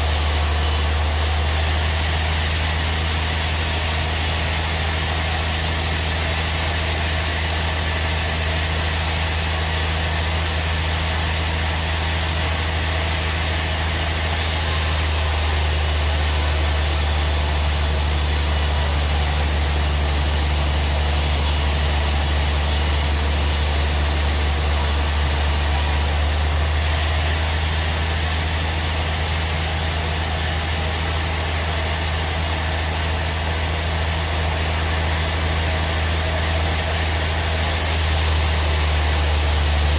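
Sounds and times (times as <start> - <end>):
bandsaw sawmill humming: 0.0 - 39.9.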